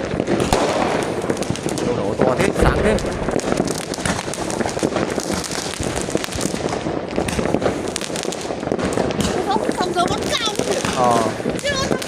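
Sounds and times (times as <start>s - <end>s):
fireworks crackling and bangs: 0.0s - 12.0s.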